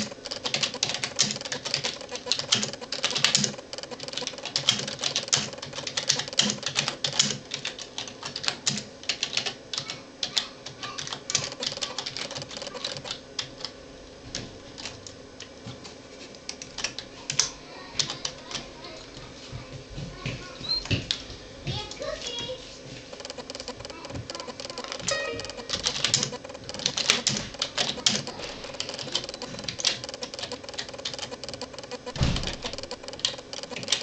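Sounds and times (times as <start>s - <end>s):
keyboard keys clicking: 0.0s - 15.5s, 16.4s - 18.6s, 23.1s - 34.0s
faint steady hum: 0.0s - 34.0s.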